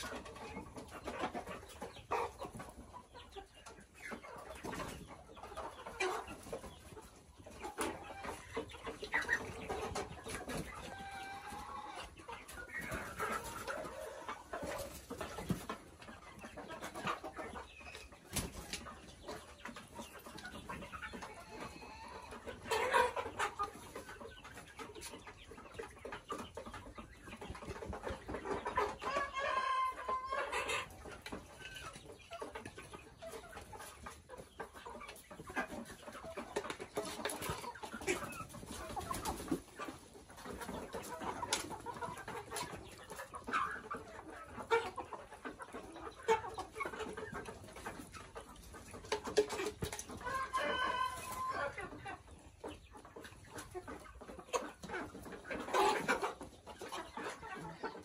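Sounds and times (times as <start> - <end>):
chickens clucking and calling: 0.0 - 58.0.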